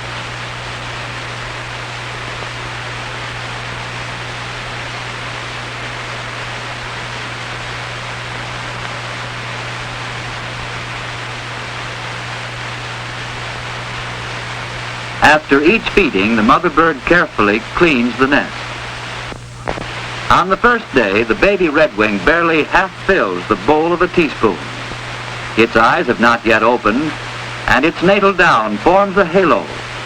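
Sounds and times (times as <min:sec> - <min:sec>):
constant low hum: 0:00.0 - 0:30.0
steady hiss: 0:00.0 - 0:30.0.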